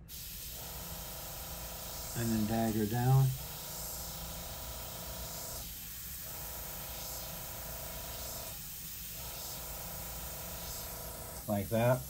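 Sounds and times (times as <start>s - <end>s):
airbrush spraying hiss: 0.0s - 12.0s.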